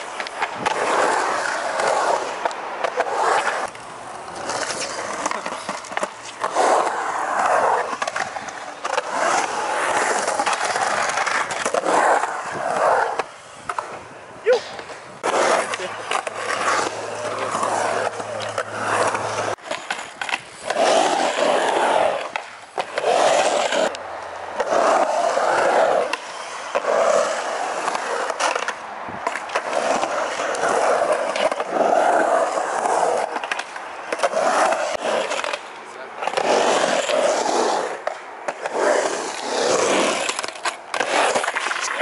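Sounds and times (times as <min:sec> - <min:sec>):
skateboard clacks: 0:00.0 - 0:42.0
skateboard wheels rolling on concrete: 0:00.0 - 0:42.0.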